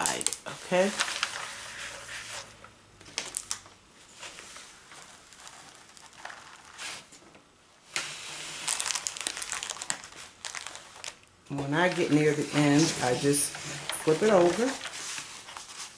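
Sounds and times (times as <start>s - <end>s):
canvas and paper crinkling: 0.0s - 2.5s, 4.1s - 7.1s, 8.0s - 15.9s.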